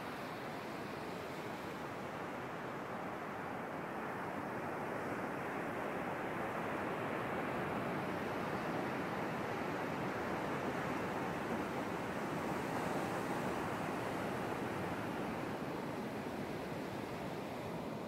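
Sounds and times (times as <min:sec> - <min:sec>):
ocean surf breaking on beach: 0:00.1 - 0:18.0.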